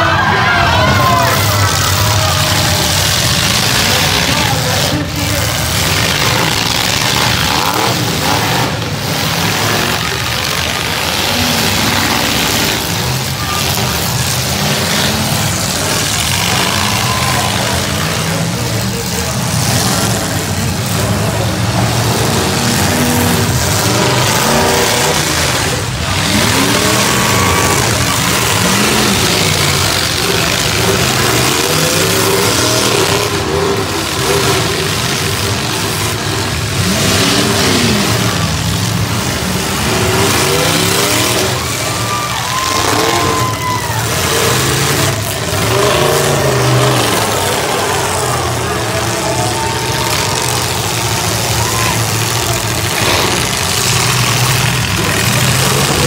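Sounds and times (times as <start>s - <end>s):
car engines revving: 0.0s - 56.0s
crowd voices: 0.0s - 56.0s.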